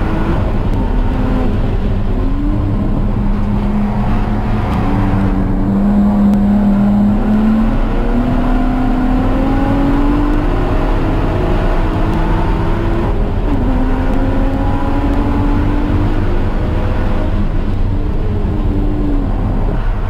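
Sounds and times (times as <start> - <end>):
car engine accelerating: 0.0 - 20.0
wind and road rush: 0.0 - 20.0.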